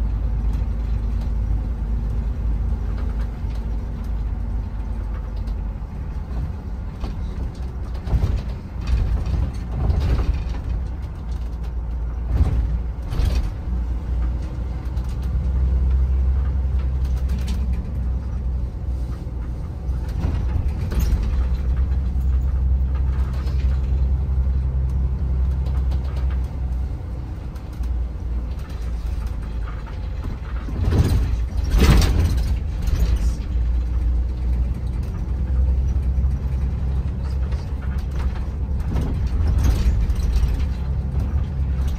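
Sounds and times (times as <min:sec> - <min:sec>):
bus engine and road rumble: 0:00.0 - 0:41.9
rattles and bumps: 0:00.0 - 0:41.9.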